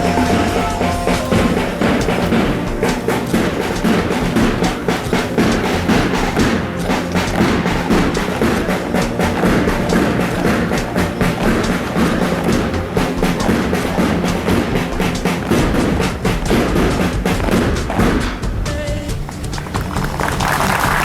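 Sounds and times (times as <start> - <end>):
parade band march: 0.0 - 21.0.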